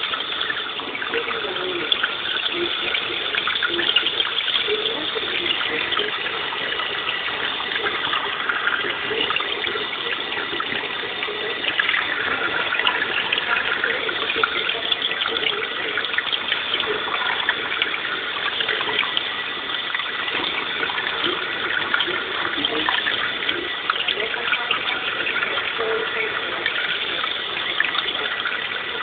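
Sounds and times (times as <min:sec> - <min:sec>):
churning water rushing: 0:00.0 - 0:29.0.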